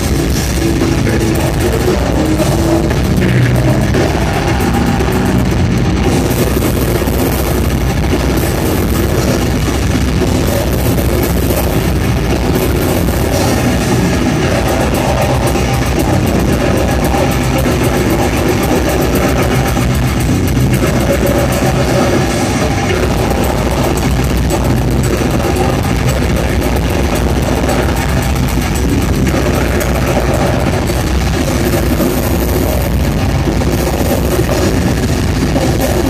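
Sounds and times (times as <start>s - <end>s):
bass guitar: 0.0s - 36.0s
distorted electric guitars: 0.0s - 36.0s
drum kit: 0.0s - 36.0s
person singing into a microphone: 0.0s - 36.0s.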